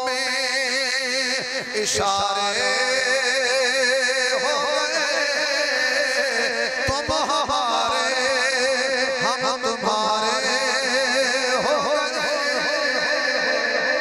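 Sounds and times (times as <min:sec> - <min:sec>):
man chanting over loudspeaker: 0:00.0 - 0:14.0.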